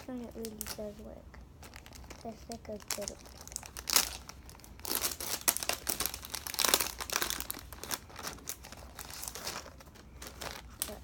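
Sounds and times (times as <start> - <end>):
packaging crinkling and tearing: 0.2 - 0.9, 1.6 - 11.0.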